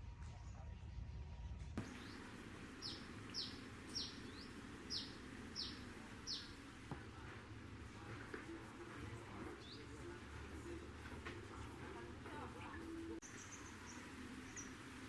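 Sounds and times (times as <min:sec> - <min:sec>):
steady outdoor hiss: 0:01.2 - 0:15.0.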